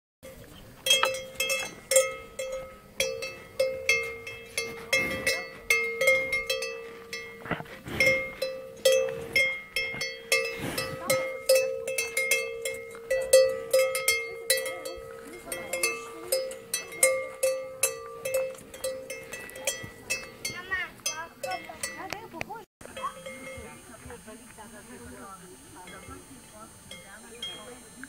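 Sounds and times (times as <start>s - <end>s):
cowbell clanking: 0.2s - 22.2s, 22.8s - 24.1s, 25.8s - 27.9s.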